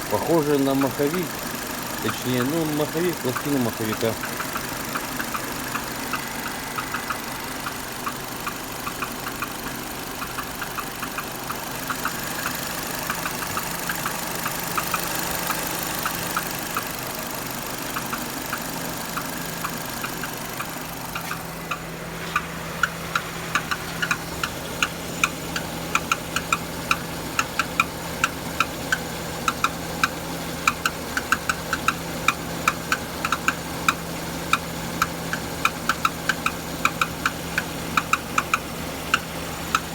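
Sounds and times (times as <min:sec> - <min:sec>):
petrol engine idling: 0:00.0 - 0:39.9
tapping and clicking from gearbox: 0:00.0 - 0:39.9.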